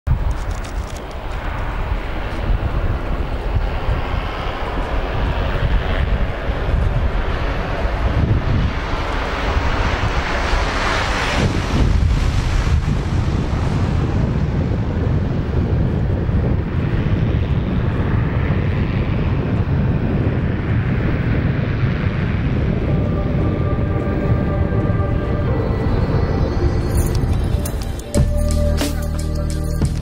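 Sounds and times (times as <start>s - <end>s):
propeller plane engine droning: 0.1s - 30.0s
wind on microphone: 0.1s - 30.0s.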